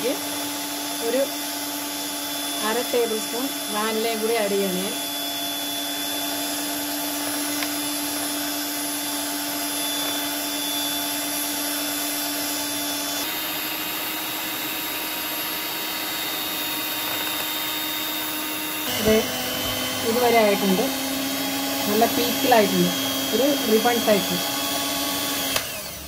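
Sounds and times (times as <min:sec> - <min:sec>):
electric hand mixer whipping: 0:00.0 - 0:26.0.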